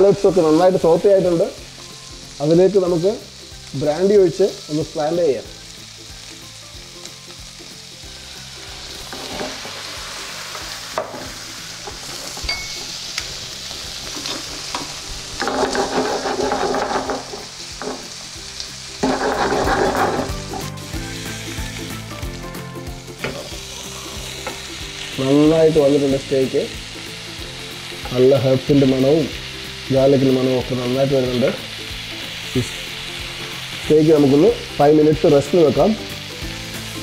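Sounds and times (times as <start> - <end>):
food sizzling in a frying pan: 0.0 - 37.0.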